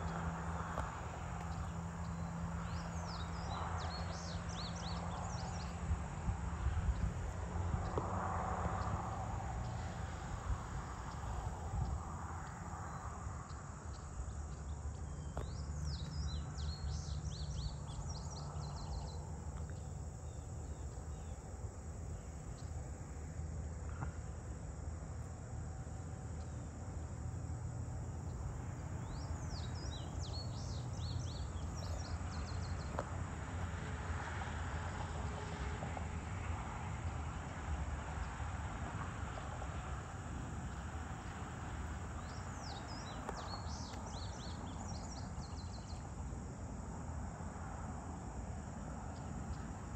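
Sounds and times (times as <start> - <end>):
songbird singing: 0.0 - 33.6, 40.7 - 46.8, 49.1 - 49.9
crickets and insects chirping: 0.0 - 49.9.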